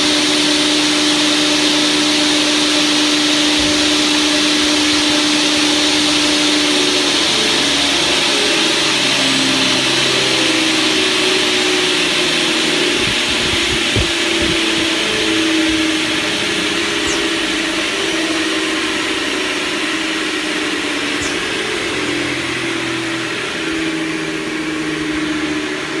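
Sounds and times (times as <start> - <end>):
machine motor humming: 0.0 - 26.0.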